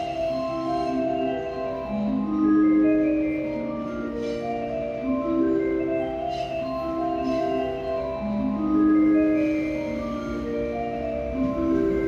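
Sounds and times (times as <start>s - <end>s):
chime melody over speakers: 0.0s - 12.0s.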